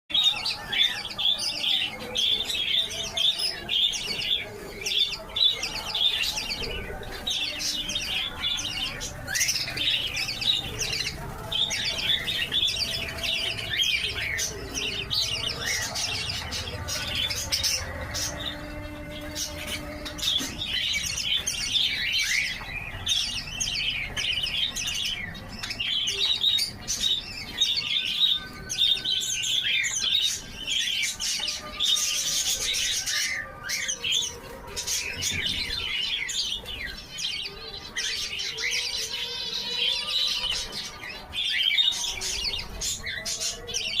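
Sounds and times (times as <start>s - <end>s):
small birds chirping: 0.1s - 44.0s.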